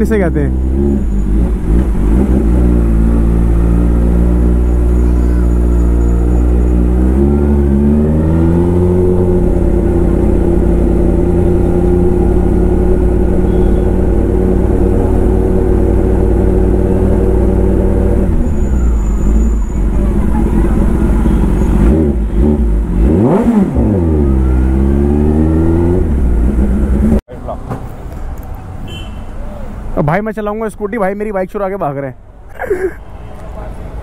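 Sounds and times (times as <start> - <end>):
motorcycle engine: 0.0 - 27.2.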